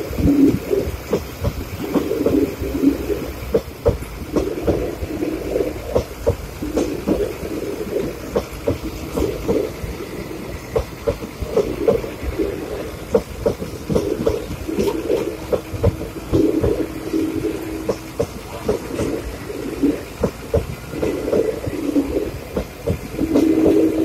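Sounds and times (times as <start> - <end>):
faint steady hum: 0.0 - 24.0
train coaches rumbling past: 0.0 - 24.0
wheels knocking over rail joints: 0.0 - 24.0.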